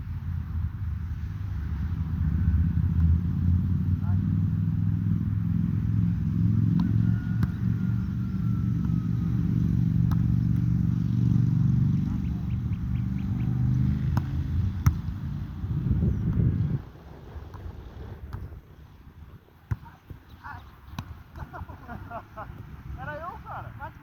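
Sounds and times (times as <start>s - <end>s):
engine running low hum: 0.0s - 24.0s.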